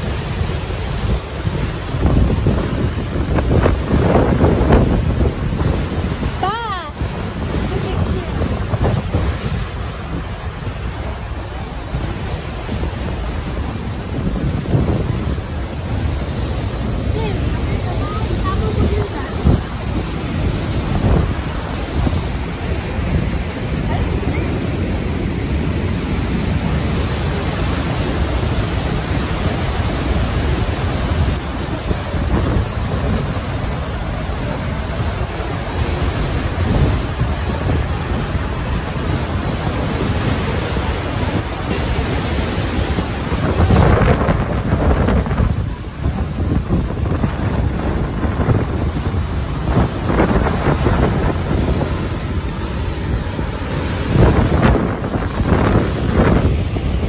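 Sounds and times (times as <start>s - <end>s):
waterfall rushing: 0.0s - 57.0s
wind on microphone: 0.0s - 57.0s.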